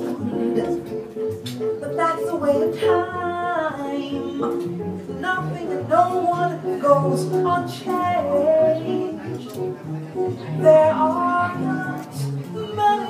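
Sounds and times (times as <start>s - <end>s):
woman singing into microphone: 0.0s - 1.1s, 1.8s - 9.3s, 10.6s - 13.0s
guitar: 0.0s - 13.0s.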